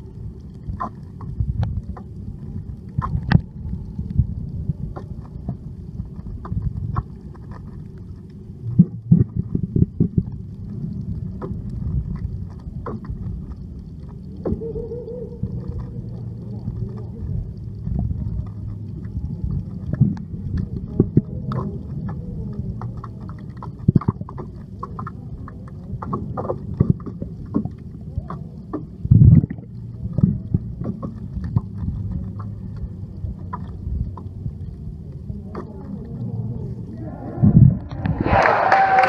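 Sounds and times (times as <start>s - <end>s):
underwater low rumble: 0.0s - 39.0s
sharp underwater clicks and knocks: 0.3s - 14.8s, 15.5s - 36.2s.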